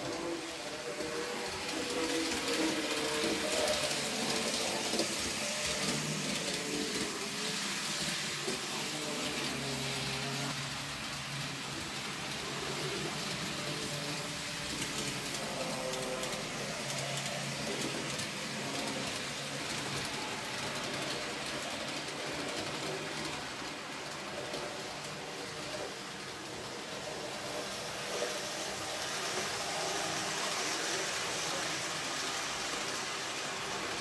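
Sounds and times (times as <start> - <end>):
model train wheels rattling on rail: 0.0 - 34.0.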